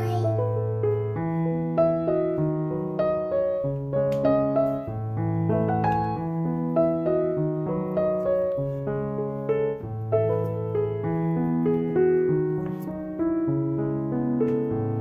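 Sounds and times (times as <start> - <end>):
light instrumental melody: 0.0 - 15.0.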